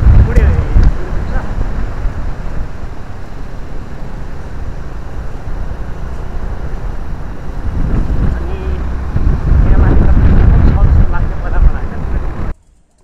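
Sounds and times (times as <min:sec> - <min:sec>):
scooter engine running: 0:00.0 - 0:12.5
wind and road noise: 0:00.0 - 0:13.0.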